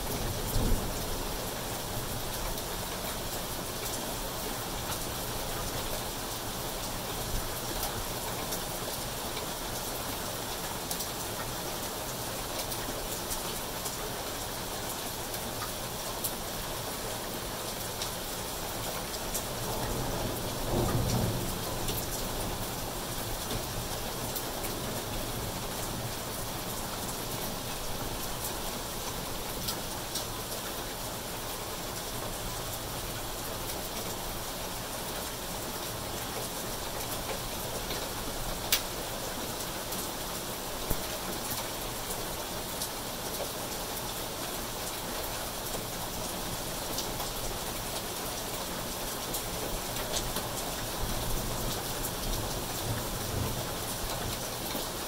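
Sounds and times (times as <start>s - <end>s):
rain on foliage and concrete: 0.0s - 55.0s.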